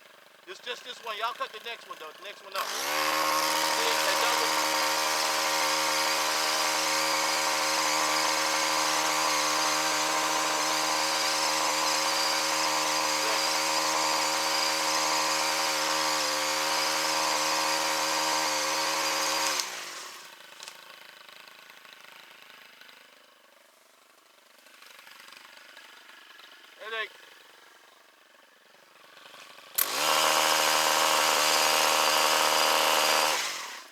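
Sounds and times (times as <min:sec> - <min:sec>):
chainsaw running: 0:00.6 - 0:23.6, 0:24.4 - 0:33.9
chainsaw engine winding down: 0:00.7 - 0:23.2, 0:28.8 - 0:33.9.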